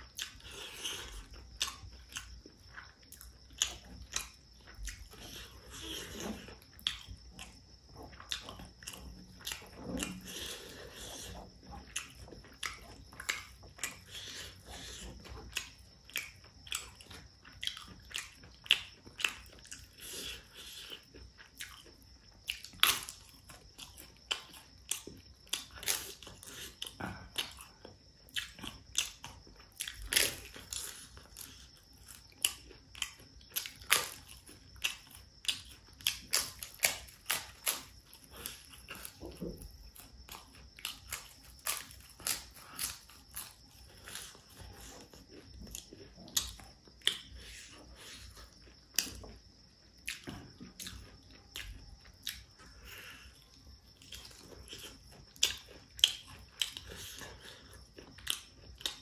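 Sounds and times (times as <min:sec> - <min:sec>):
soft chewing: 0:00.0 - 0:59.0.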